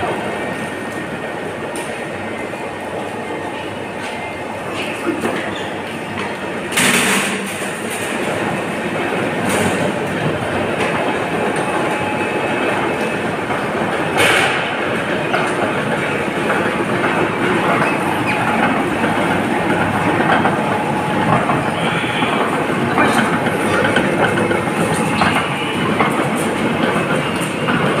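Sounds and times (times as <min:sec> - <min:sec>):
industrial juicer running: 0:00.0 - 0:28.0.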